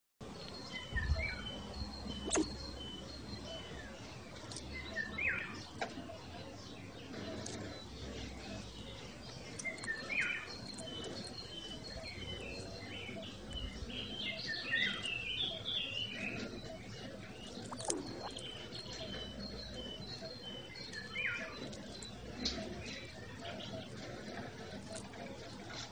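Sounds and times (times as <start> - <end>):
small birds chirping: 0.2 - 25.9.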